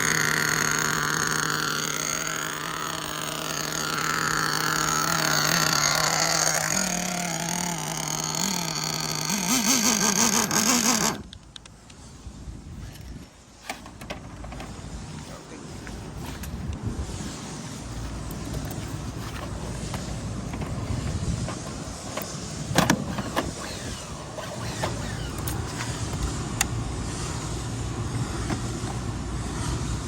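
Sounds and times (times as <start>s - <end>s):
small nitro engine running: 0.0s - 11.3s, 16.1s - 30.0s.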